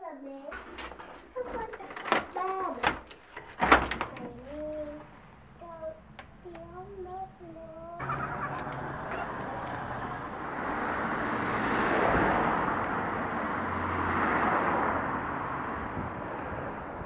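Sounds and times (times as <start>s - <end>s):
cars passing by: 0.5s - 17.0s.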